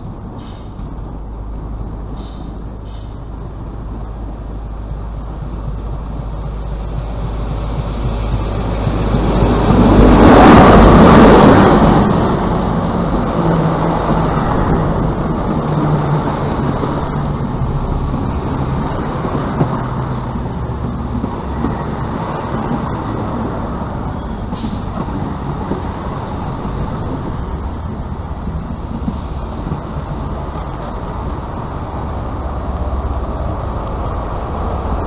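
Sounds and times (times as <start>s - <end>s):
train coaches rumble and wheel clatter: 0.0s - 35.0s
train power car rushing past: 0.0s - 35.0s.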